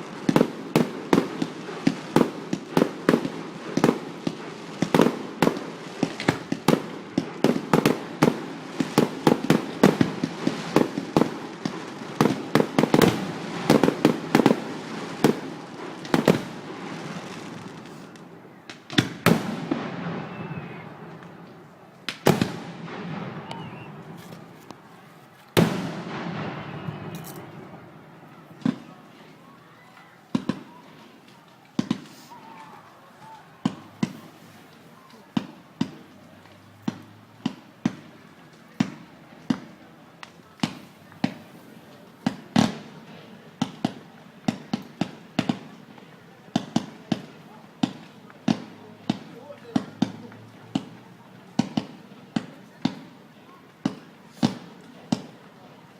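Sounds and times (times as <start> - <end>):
fireworks crackling: 0.0 - 55.9
fireworks exploding: 0.0 - 55.9.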